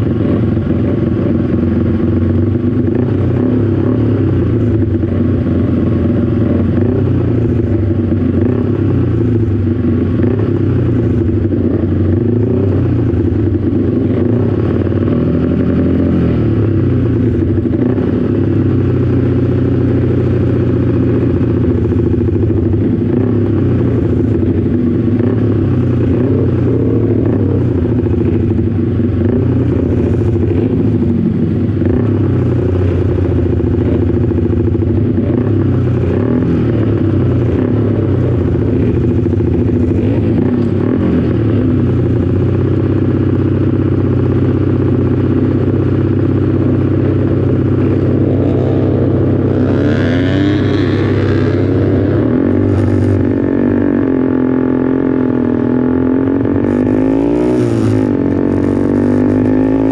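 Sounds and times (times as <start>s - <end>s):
motorcycle engine idling: 0.0s - 59.9s
other motorcycles idling: 0.0s - 59.9s.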